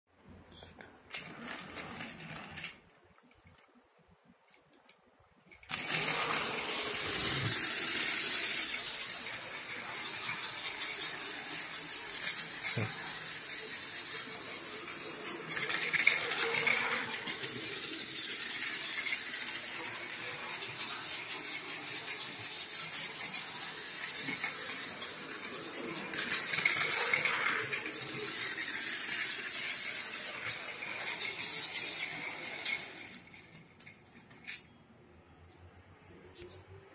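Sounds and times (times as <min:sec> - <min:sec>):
toy train motor whirring: 0:01.1 - 0:02.8, 0:05.6 - 0:34.7
wheels rattling on plastic track: 0:01.1 - 0:02.8, 0:05.5 - 0:34.7.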